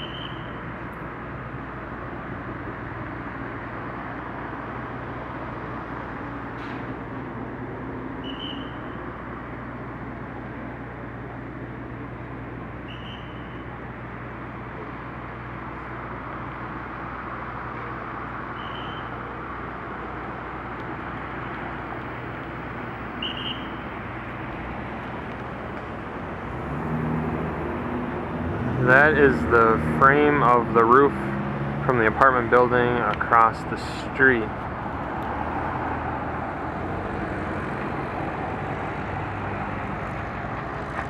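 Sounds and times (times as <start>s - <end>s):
vehicle running hum: 0.0s - 41.0s.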